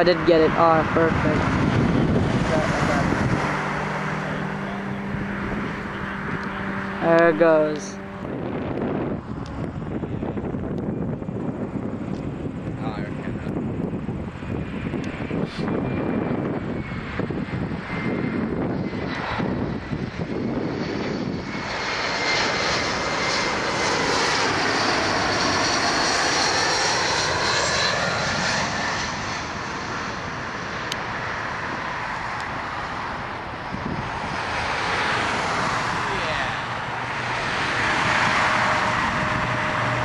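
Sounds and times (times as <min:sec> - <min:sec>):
jet airliner passing overhead: 0:00.0 - 0:40.0
jet engine whine: 0:00.0 - 0:40.0.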